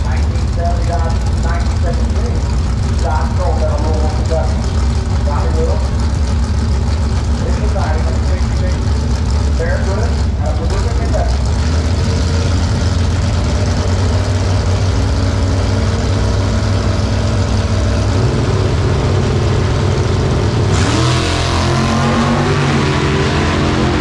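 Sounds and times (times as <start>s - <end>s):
drag racing car engine: 0.0s - 24.0s.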